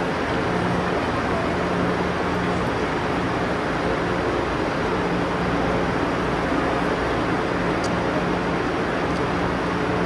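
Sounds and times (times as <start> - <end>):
train ventilation rushing and humming: 0.0 - 10.0.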